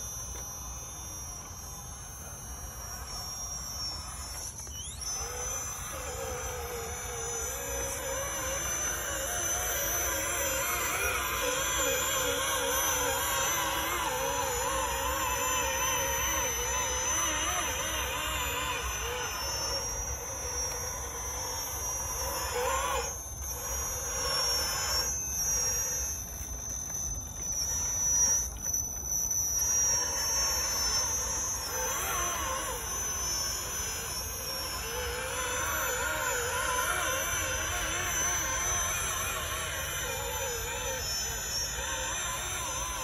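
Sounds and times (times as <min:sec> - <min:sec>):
electric motor and gearbox whining: 0:00.0 - 0:43.0.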